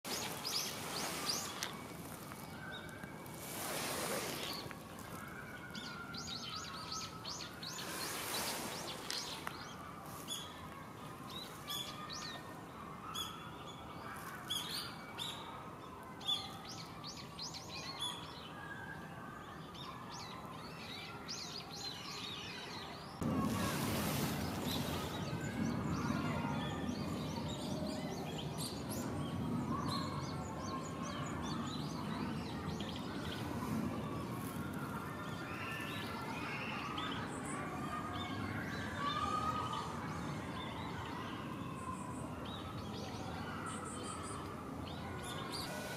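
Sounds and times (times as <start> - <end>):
songbirds chirping and trilling: 0.0 - 45.9.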